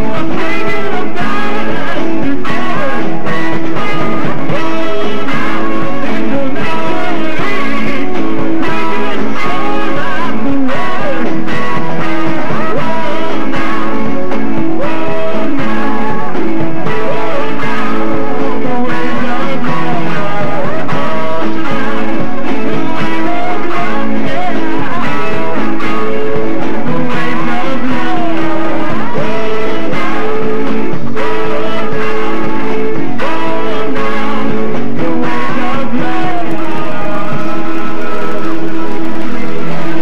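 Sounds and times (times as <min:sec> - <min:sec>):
bass guitar: 0:00.0 - 0:40.0
drum kit: 0:00.0 - 0:40.0
electric lead guitar: 0:00.0 - 0:40.0.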